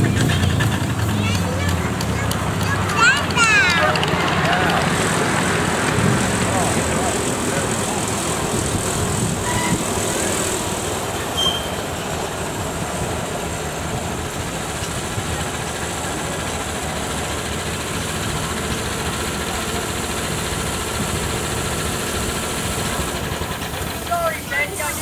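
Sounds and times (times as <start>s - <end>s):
miniature railway locomotive running: 0.0s - 25.0s.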